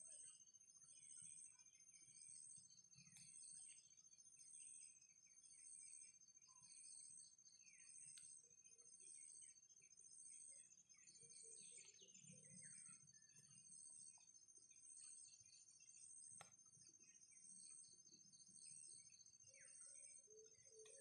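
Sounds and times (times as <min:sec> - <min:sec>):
faint insect trill: 0:00.0 - 0:21.0.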